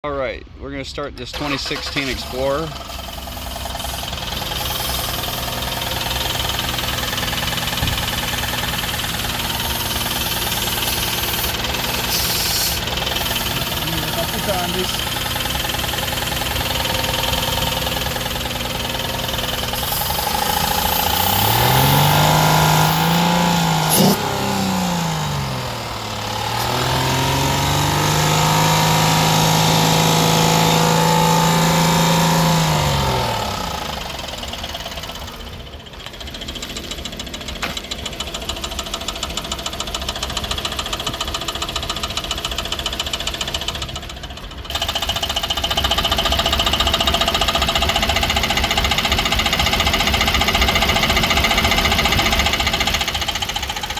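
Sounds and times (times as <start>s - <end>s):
engine idling and revving: 1.2s - 53.9s
rapid engine knocking: 1.5s - 30.7s, 31.4s - 53.9s.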